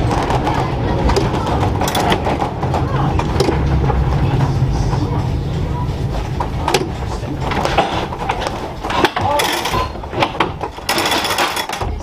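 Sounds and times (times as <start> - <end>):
faint voices: 0.0 - 12.0
streetcar clicks and rattles: 0.0 - 12.0.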